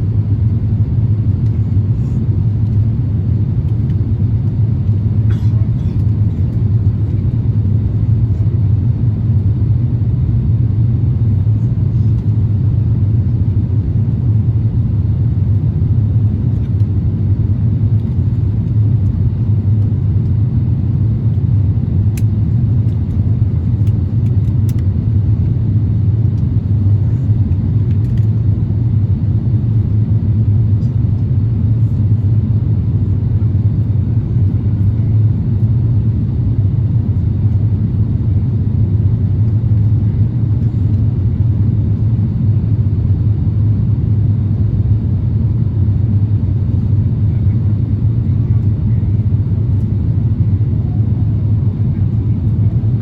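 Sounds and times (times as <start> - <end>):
airplane cabin engine rumble: 0.0 - 53.0.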